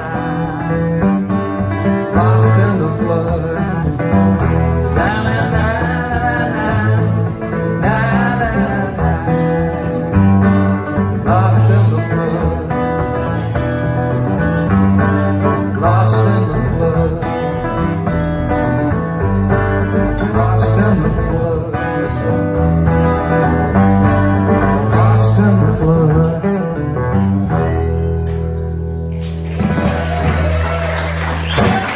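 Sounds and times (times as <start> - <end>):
bass line: 0.0 - 31.9
guitars: 0.0 - 31.9
live country band playing: 0.0 - 31.9.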